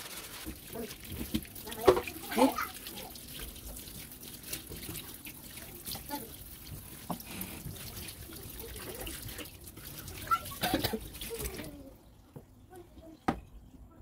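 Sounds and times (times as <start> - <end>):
water splashing in sink: 0.0 - 12.1.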